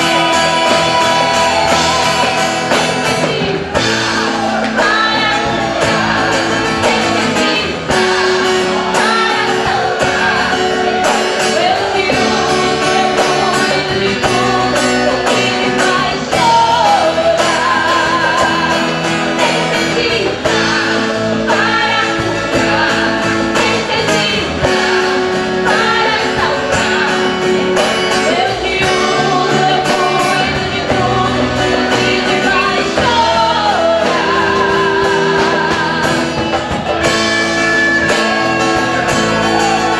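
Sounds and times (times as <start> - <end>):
guitar: 0.0 - 39.9
person singing: 0.0 - 39.9.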